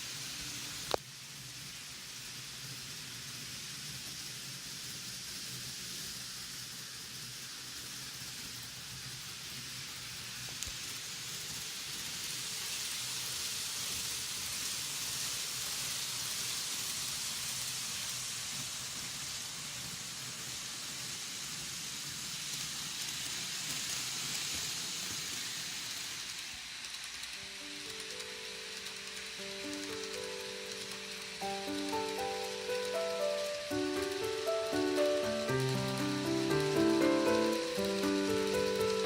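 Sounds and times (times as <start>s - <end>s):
model train running on track: 0.0s - 39.0s.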